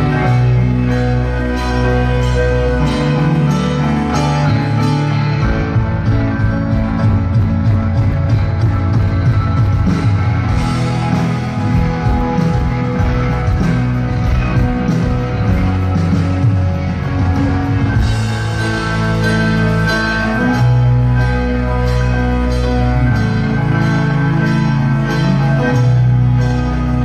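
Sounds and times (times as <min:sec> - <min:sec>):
electric guitar: 0:00.0 - 0:27.0
rock band playing: 0:00.0 - 0:27.0.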